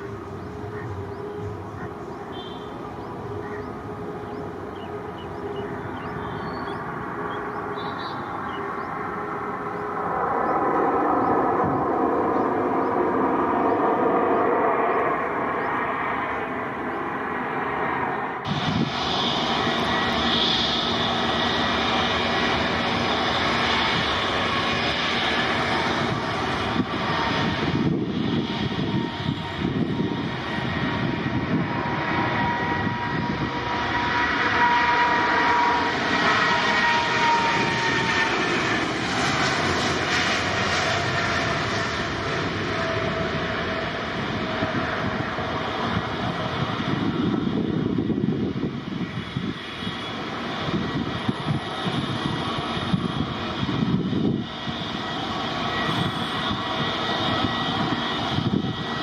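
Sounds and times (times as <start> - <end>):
jet airliner taking off: 0.0 - 59.0.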